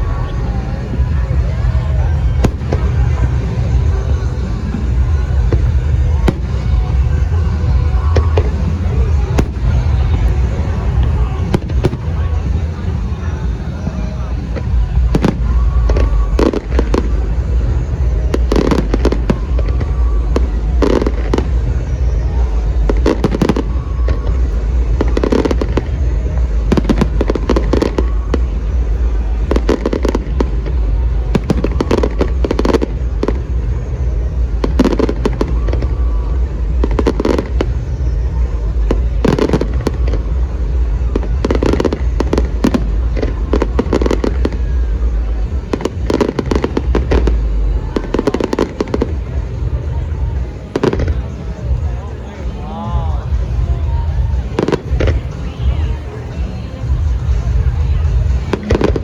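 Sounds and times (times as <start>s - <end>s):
fireworks bursting: 0.0s - 59.0s
low rumble: 0.0s - 59.0s.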